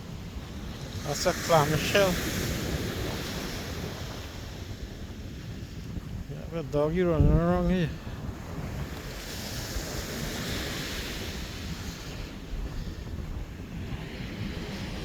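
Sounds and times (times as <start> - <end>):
ocean surf washing up: 0.0 - 15.0
wind rumbling on microphone: 0.0 - 15.0.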